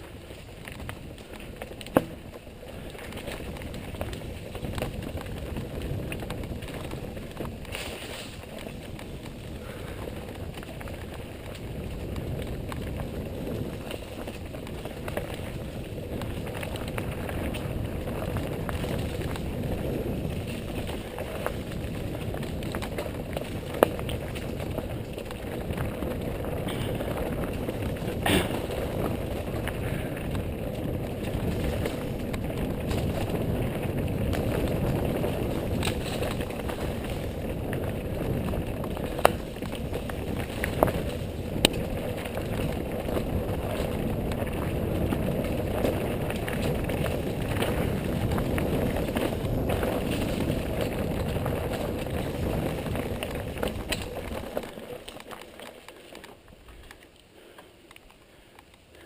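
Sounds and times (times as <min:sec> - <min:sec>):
bike knocks and clacks: 0:00.0 - 0:59.0
bike tyres rumbling on dirt: 0:00.0 - 0:59.0
wind: 0:00.0 - 0:59.0.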